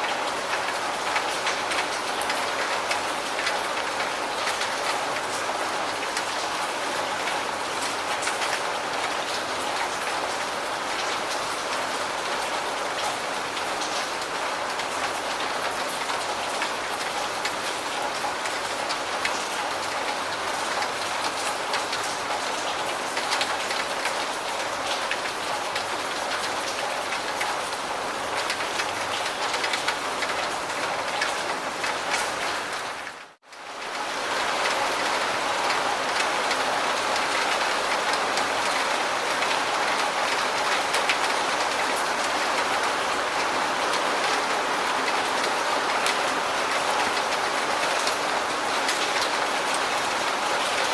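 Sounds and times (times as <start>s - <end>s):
steady rain patter: 0.0s - 50.9s.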